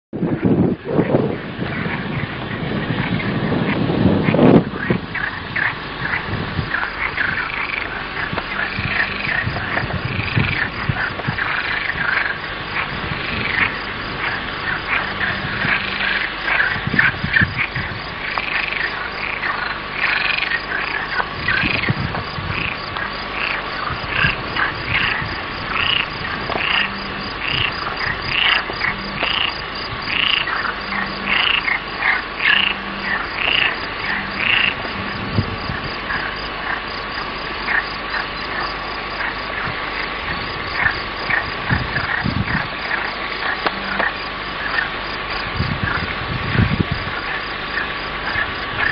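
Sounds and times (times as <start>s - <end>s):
frogs croaking: 0.2s - 48.9s.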